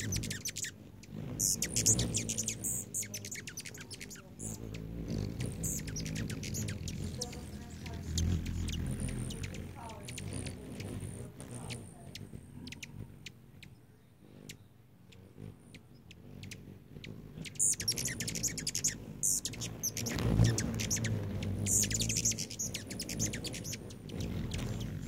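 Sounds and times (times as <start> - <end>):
hummingbirds chattering: 0.0 - 25.0.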